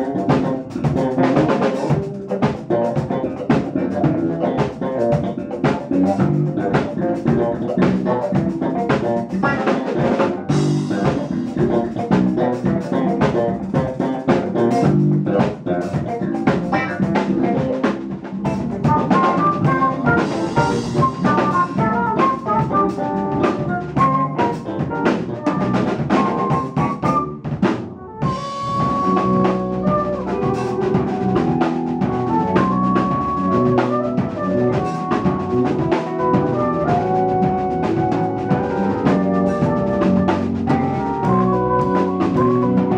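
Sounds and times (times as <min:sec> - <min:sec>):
jazz-funk band playing: 0:00.0 - 0:42.9
quick high lead notes: 0:00.0 - 0:42.9.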